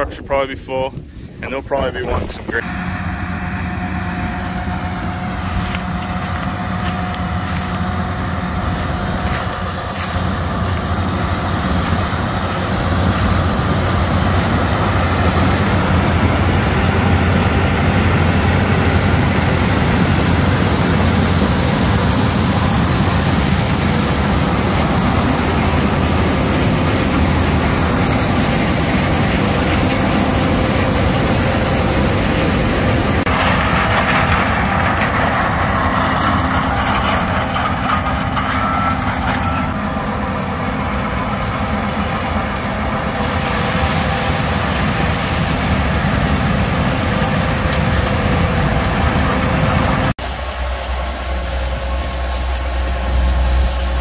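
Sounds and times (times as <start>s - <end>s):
combine harvester engine and threshing: 0.0s - 54.0s.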